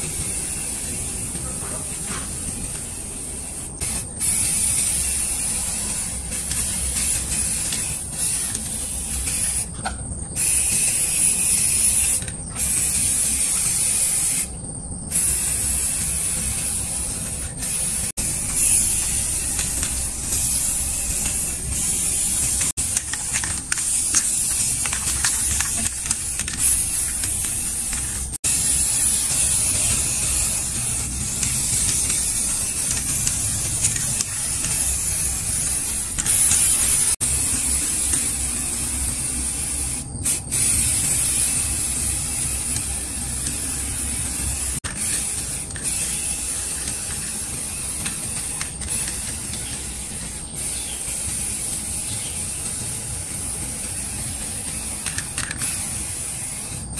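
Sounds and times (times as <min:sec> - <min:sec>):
spray paint can hissing: 0:00.0 - 0:56.9.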